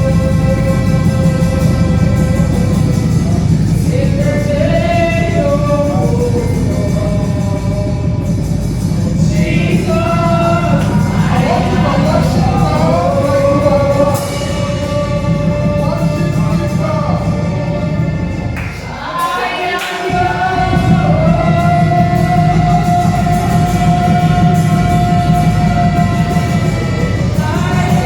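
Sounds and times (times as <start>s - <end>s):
instrumental backing: 0.0s - 28.0s
voices singing gospel song: 0.0s - 28.0s.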